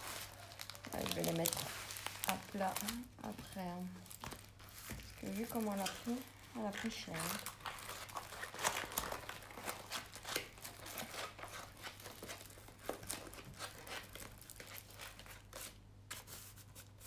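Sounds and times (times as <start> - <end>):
canvas sheet crinkling and rustling: 0.0 - 15.6.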